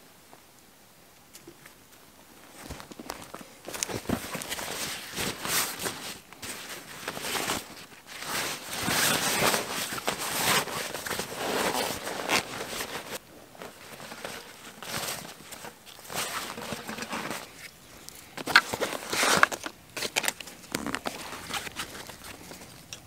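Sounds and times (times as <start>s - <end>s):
nylon fabric rustling and crinkling: 2.4s - 22.9s.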